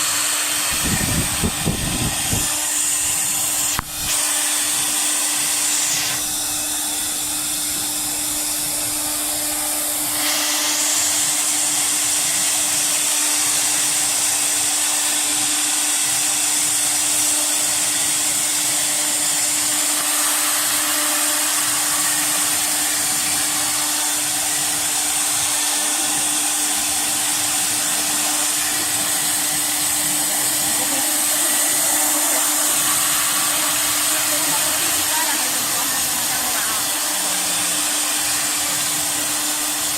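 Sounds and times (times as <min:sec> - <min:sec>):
router cutting wood: 0:00.0 - 0:39.9
router spindle whining: 0:00.0 - 0:39.9.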